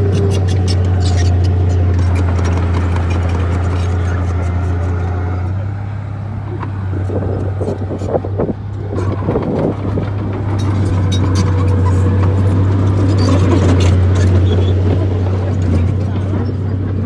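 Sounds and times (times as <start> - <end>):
knocks and scraping: 0.0 - 5.7, 6.4 - 17.0
bulldozer diesel engine droning: 0.0 - 17.0.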